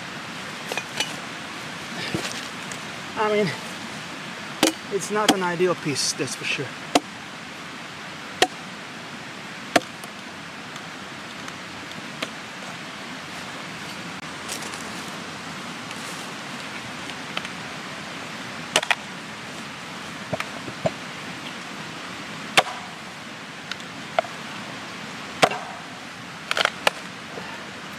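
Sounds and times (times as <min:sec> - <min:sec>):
steady background hiss: 0:00.0 - 0:27.9.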